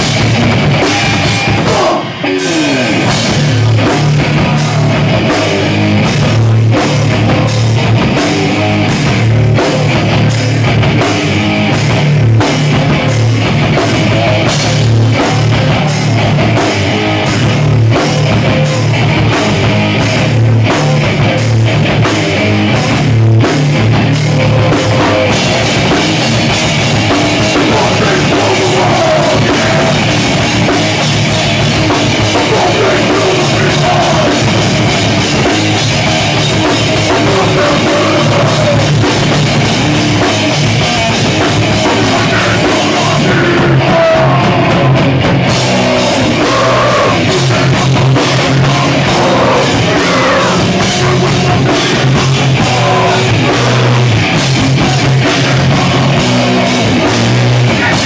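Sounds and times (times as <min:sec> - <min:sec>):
distorted guitars and bass: 0:00.0 - 0:58.0
pounding drum kit: 0:00.0 - 0:58.0.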